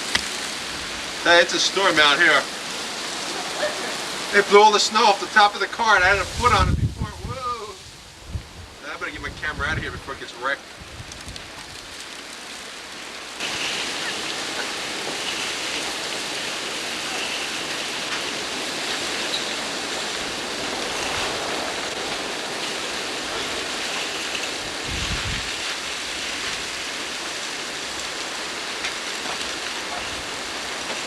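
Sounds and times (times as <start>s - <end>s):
storm wind blowing on microphone: 0.0s - 12.1s, 13.4s - 31.0s.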